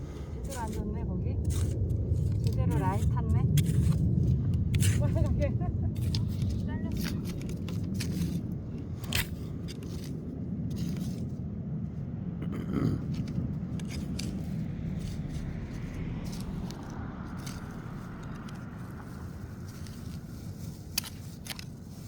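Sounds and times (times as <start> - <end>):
soil scraping: 0.0 - 22.0
small clicks and crunches: 1.4 - 11.3, 13.0 - 22.0.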